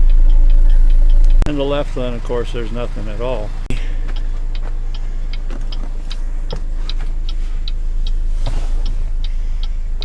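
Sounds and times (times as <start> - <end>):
car engine idling: 0.0 - 10.0
turn signal clicking fast: 0.0 - 10.0.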